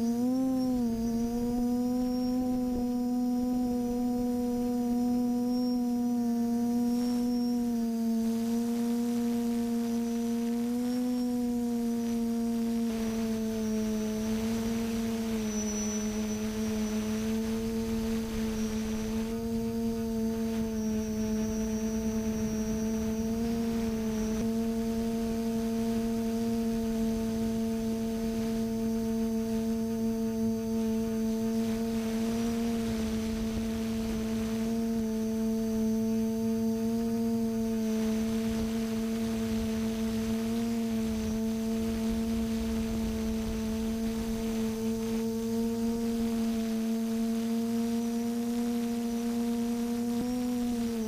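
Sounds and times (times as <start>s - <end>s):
drone motors humming: 0.0s - 51.0s.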